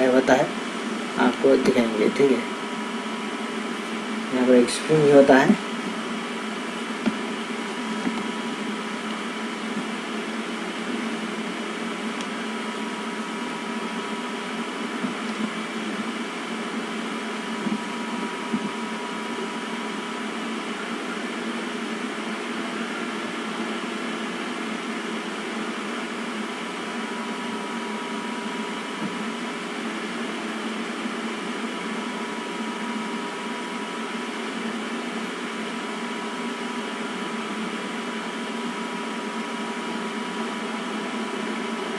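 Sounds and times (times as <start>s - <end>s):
mechanical hum: 0.0s - 41.9s.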